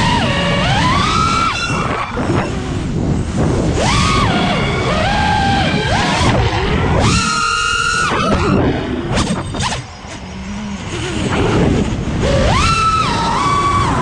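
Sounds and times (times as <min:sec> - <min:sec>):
quadcopter motors whining: 0:00.0 - 0:14.0
wind rush on microphone: 0:00.0 - 0:14.0.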